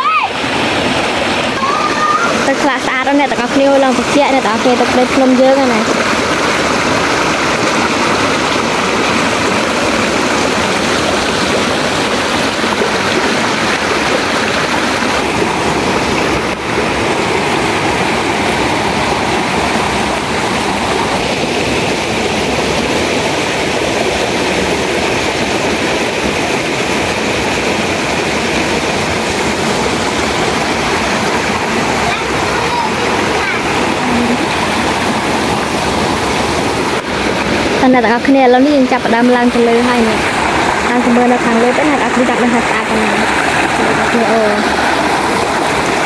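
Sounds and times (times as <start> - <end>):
waterfall rushing over rocks: 0.0 - 46.0.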